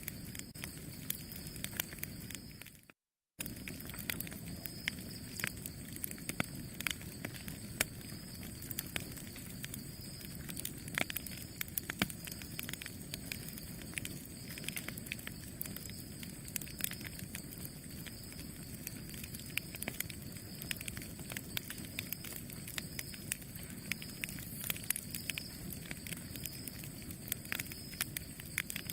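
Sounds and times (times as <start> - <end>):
campfire flames rushing: 0.0 - 2.7, 3.4 - 28.9
burning wood crackling: 0.0 - 28.9.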